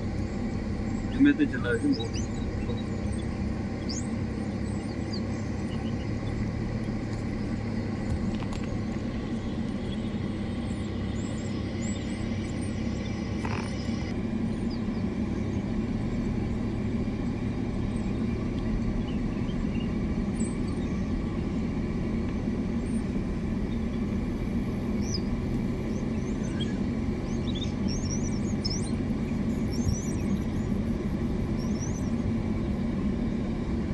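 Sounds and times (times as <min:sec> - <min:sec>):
birds chirping: 0:00.0 - 0:33.9
vehicle engine idling: 0:00.0 - 0:33.9.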